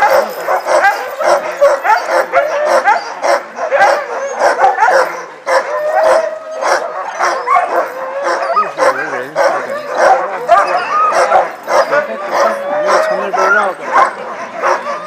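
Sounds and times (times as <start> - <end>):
dogs barking and howling: 0.0 - 15.0.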